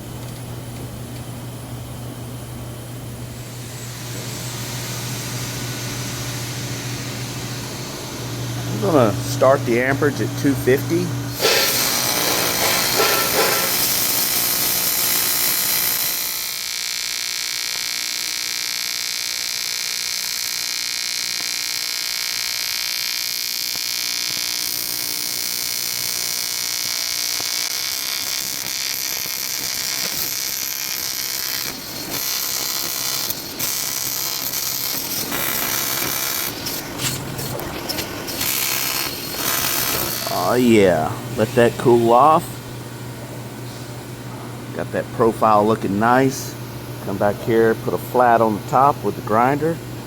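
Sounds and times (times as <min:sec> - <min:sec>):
welding arc buzzing hiss: 0:00.0 - 0:50.0.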